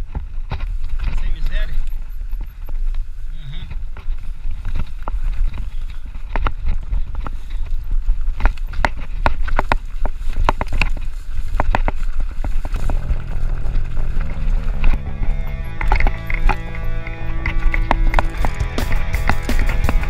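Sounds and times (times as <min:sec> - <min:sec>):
bike rattling over bumps: 0:00.0 - 0:20.0
wind rumble on microphone: 0:00.0 - 0:20.0.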